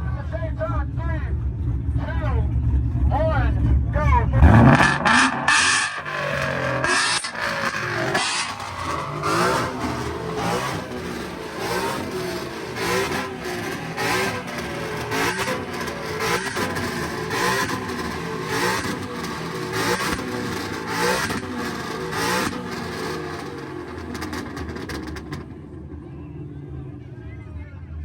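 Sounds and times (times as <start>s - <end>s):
car engines revving: 1.0s - 27.6s.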